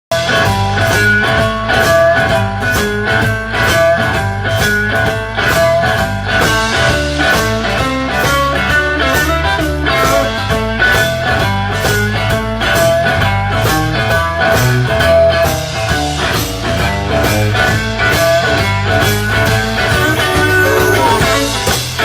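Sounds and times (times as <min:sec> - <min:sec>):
blues-rock band playing: 0:00.1 - 0:22.0
electric guitar lines: 0:00.1 - 0:22.0.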